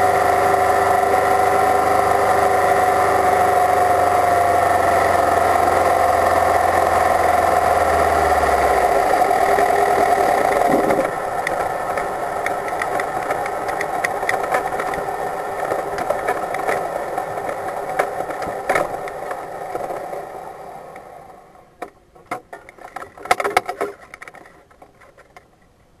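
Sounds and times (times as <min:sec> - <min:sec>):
race car engine running at low revs: 0:00.0 - 0:21.6.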